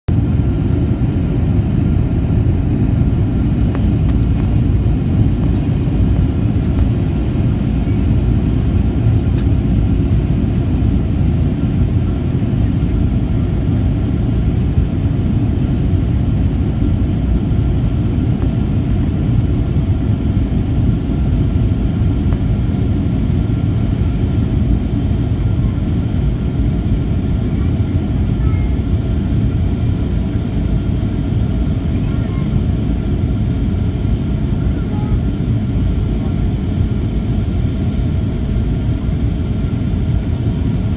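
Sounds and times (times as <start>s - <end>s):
airplane cabin rumble: 0.1s - 40.9s
faint steady whine: 0.2s - 40.9s.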